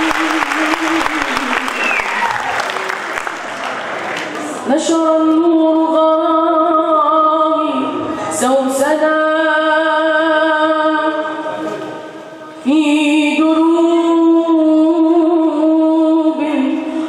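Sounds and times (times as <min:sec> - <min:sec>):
boy singing into microphone: 0:00.0 - 0:02.2, 0:04.6 - 0:17.0.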